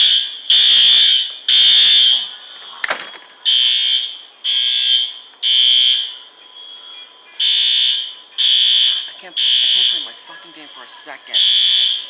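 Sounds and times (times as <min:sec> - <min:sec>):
fire alarm beeps: 0:00.0 - 0:12.0.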